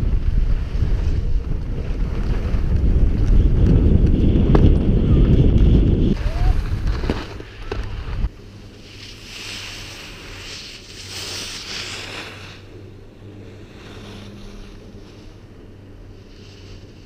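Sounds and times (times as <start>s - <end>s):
low wind rumble on microphone: 0.0s - 17.0s
skis scraping over packed snow: 0.0s - 17.0s.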